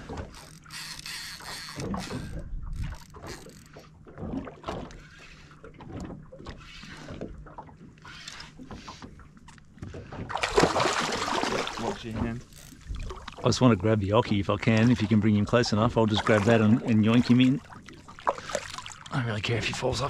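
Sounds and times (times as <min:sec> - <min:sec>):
water lapping against boat hull: 0:00.0 - 0:20.0.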